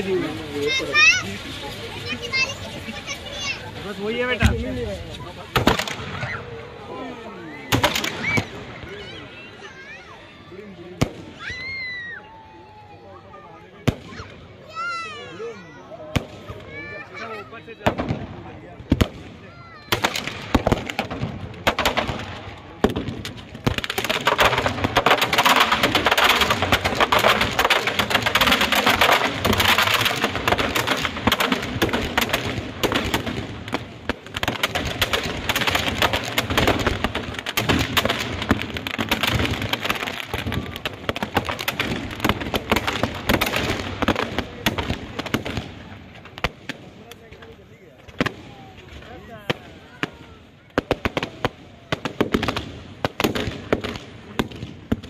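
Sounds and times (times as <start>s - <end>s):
firecrackers crackling and popping: 0.0s - 55.0s.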